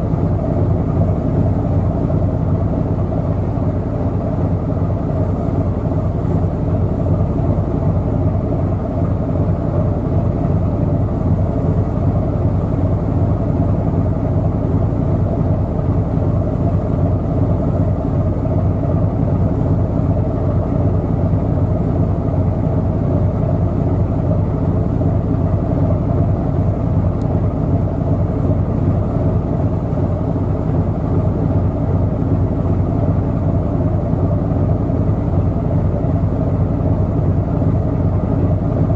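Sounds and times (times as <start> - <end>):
ship diesel engine droning: 0.0 - 38.9.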